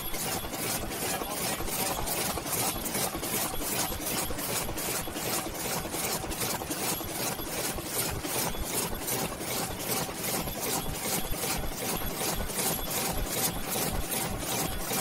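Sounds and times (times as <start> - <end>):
machine cycling rhythmically: 0.0 - 15.0.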